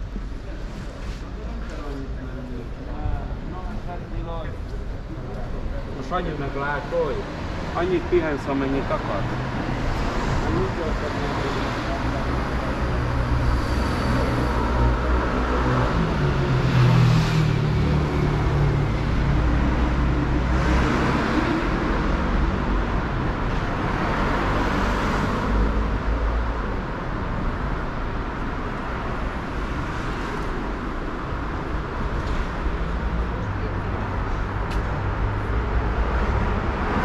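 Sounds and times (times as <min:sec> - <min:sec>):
motor vehicles passing: 0:01.4 - 0:37.0.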